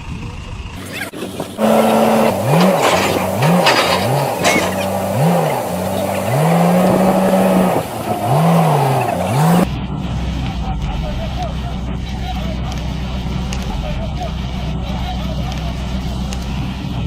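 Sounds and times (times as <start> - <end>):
heavy machine engine revving: 0.0 - 17.0.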